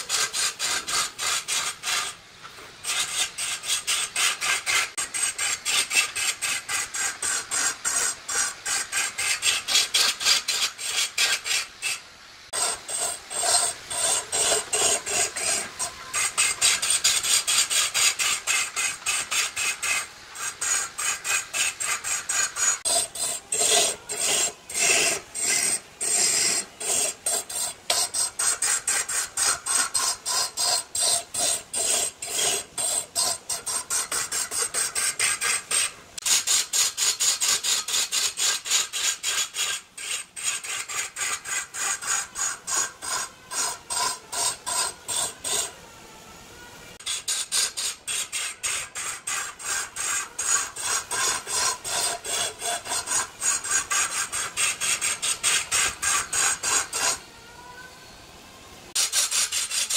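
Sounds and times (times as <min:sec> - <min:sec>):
sanding wood by hand: 0:00.0 - 0:45.8, 0:47.0 - 0:57.2, 0:58.9 - 0:59.9.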